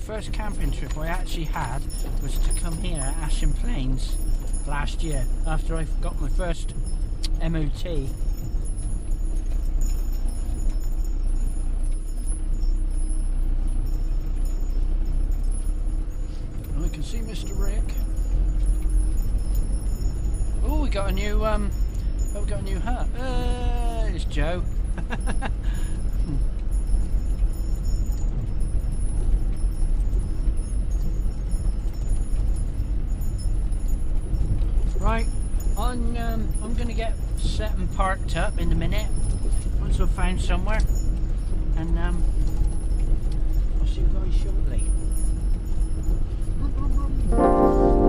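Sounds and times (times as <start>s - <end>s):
van engine and road noise: 0.0s - 48.0s.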